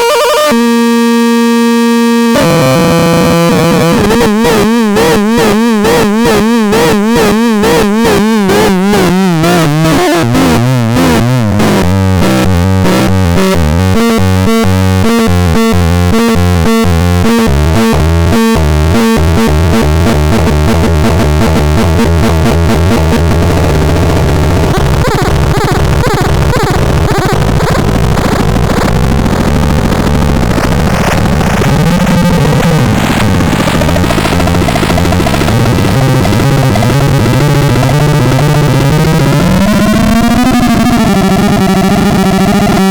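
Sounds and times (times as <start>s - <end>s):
electronic synthesizer playing: 0.0s - 42.9s
stepping low bass line: 0.5s - 42.9s.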